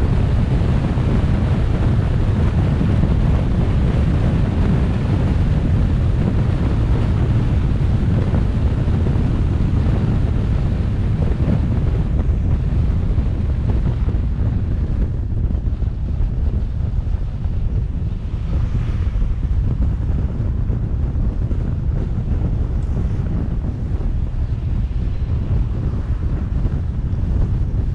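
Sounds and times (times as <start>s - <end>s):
vehicle road noise rumble: 0.0s - 27.9s
wind rushing over microphone: 0.0s - 27.9s.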